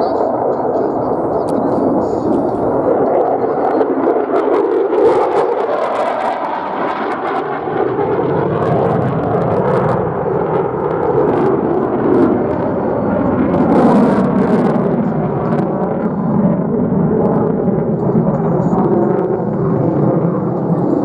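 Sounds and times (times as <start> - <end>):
fighter jet roar: 0.0 - 21.0.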